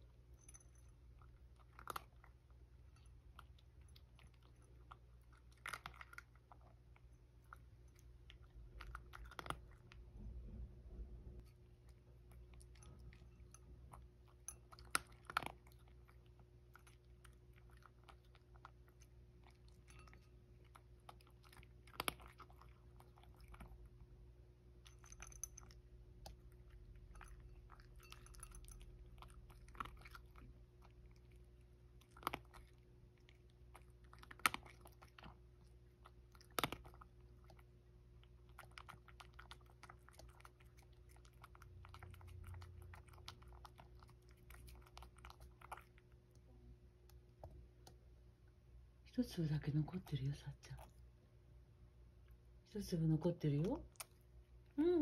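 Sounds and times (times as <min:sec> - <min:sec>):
cat crunching dry food: 0:00.0 - 0:10.4, 0:11.4 - 0:46.4.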